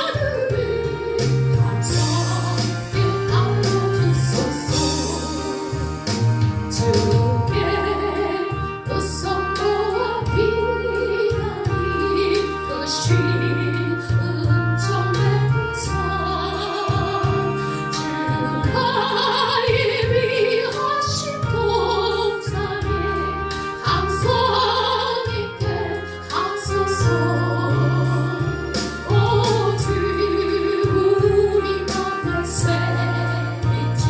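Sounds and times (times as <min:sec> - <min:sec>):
gospel singing with vibrato: 0:00.0 - 0:34.0
instrumental accompaniment: 0:00.0 - 0:34.0.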